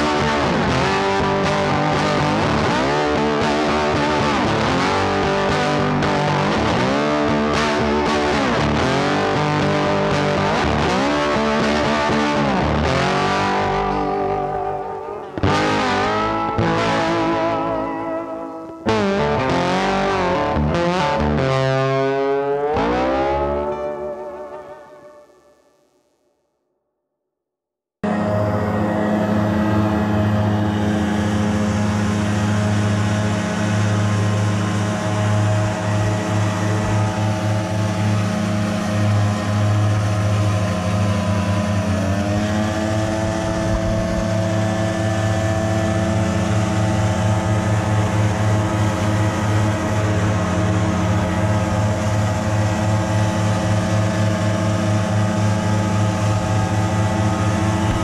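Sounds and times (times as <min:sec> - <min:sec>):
leaf blower engines droning: 0:00.0 - 0:20.6, 0:28.0 - 0:58.0.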